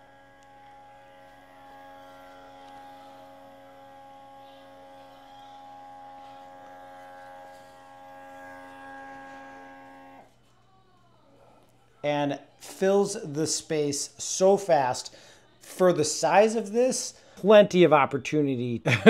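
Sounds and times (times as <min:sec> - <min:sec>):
fog machine fan whirring: 0:00.0 - 0:17.5.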